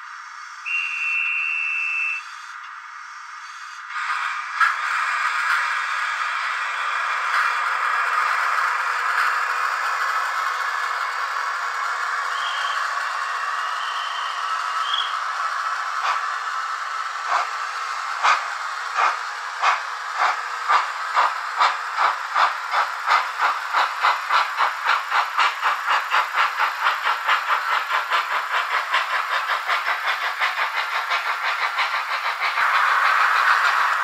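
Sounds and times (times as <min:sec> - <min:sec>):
steady steam hiss: 0:00.0 - 0:34.0
steam locomotive chuffs: 0:00.0 - 0:34.0.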